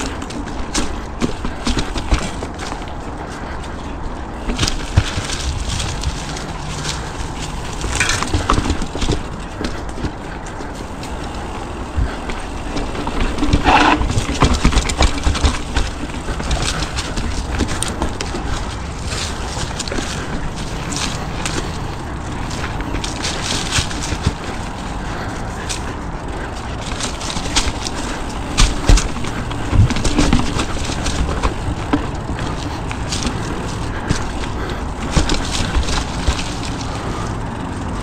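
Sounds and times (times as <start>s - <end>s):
horse hooves clip-clopping: 0.0s - 38.0s
steady low rumble: 0.0s - 38.0s.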